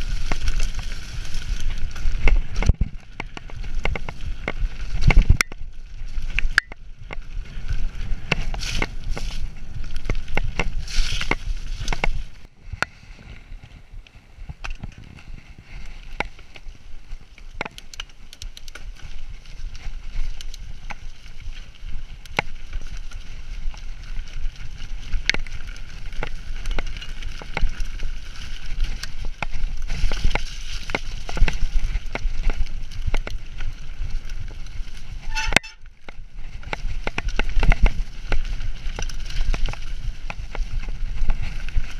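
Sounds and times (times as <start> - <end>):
bike rattling over bumps: 0.0 - 41.9
bike tyres rolling through mud: 0.0 - 41.9.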